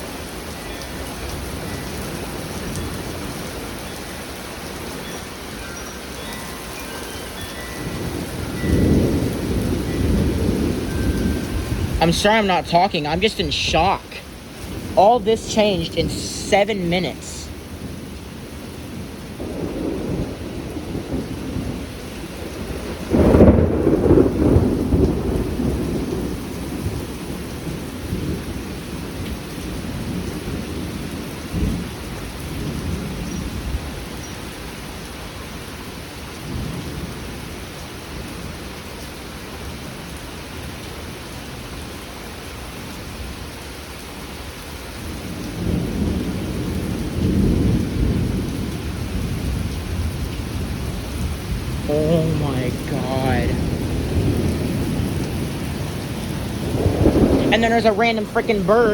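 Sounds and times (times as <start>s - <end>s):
heavy rain: 0.0s - 58.9s
thunder rumbling: 0.9s - 34.2s, 45.0s - 58.9s.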